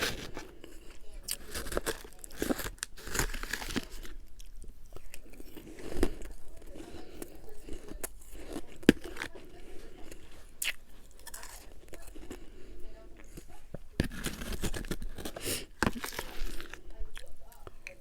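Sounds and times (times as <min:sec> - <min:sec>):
person crunching ice: 0:00.0 - 0:17.6.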